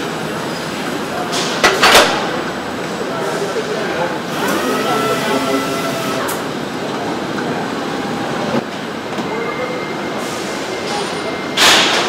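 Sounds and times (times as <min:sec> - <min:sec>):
conveyor and machinery din: 0:00.0 - 0:12.0.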